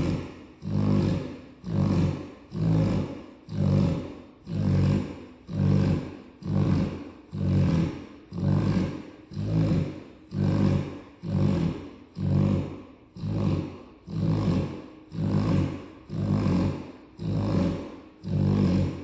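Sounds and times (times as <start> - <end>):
dog snoring loudly: 0.0 - 19.0.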